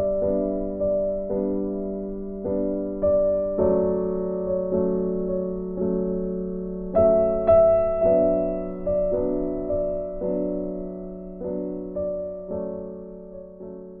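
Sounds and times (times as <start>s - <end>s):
slow gentle piano: 0.0s - 14.0s.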